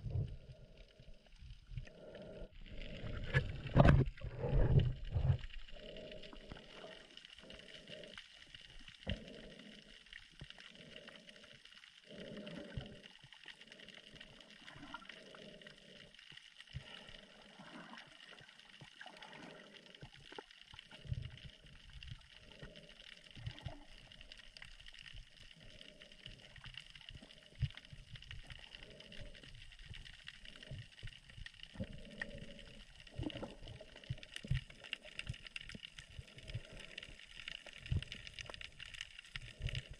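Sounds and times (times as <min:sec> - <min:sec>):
muffled underwater gurgling: 0:00.0 - 0:16.1, 0:16.8 - 0:39.9.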